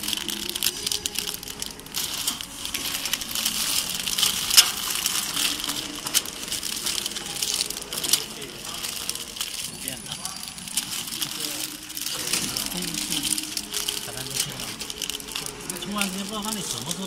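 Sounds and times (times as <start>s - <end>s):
plastic wrapping film crinkling: 0.0s - 17.0s.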